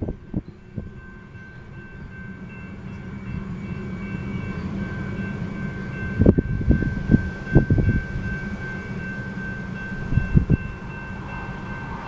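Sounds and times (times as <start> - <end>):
crossing warning bell ringing: 0.1 - 12.0.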